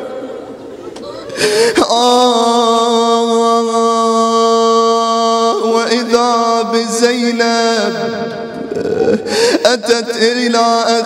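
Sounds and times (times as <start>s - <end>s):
man chanting a lament: 1.5s - 11.0s.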